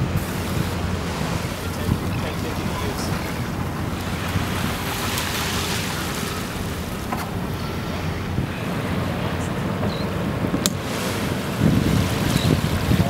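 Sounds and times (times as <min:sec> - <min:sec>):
small waves washing onto shore: 0:00.0 - 0:13.0
wind buffeting microphone: 0:00.0 - 0:13.0.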